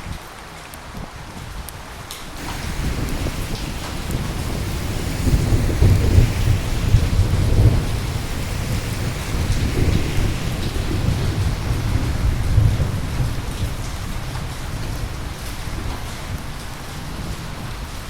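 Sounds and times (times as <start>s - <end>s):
steady rain: 0.0s - 18.0s
rolling thunder: 2.4s - 18.0s.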